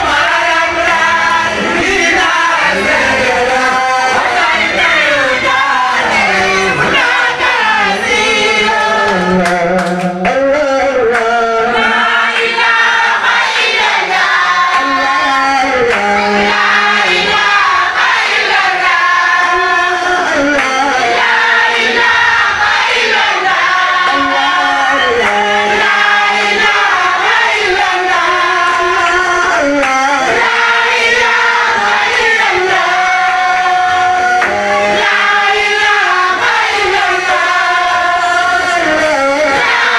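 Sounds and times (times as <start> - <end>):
men chanting a devotional song: 0.0 - 39.9.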